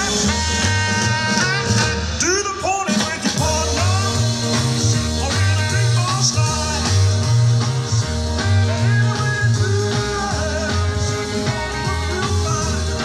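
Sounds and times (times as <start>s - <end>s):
rock music with bass beat: 0.0s - 13.0s.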